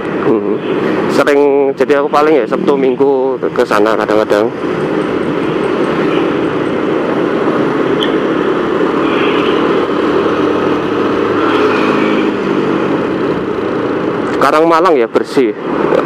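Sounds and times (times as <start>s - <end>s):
surrounding traffic: 0.0s - 16.0s
wind and road noise: 0.0s - 16.0s.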